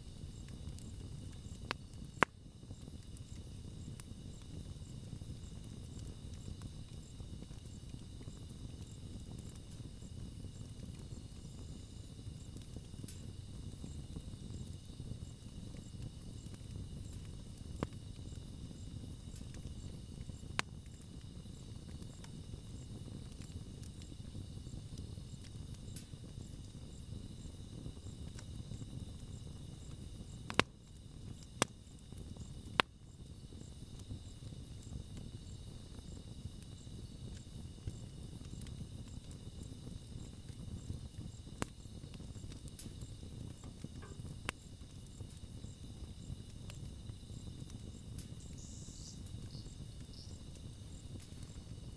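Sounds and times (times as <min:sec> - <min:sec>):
campfire burning: 0:00.0 - 0:51.9
fire pops and crackles: 0:00.0 - 0:51.9
insects trilling: 0:00.0 - 0:51.9.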